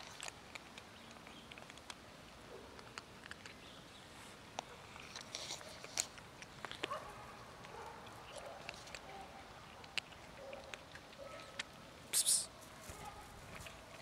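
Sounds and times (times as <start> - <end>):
cats crunching dry kibble: 0.0 - 14.0.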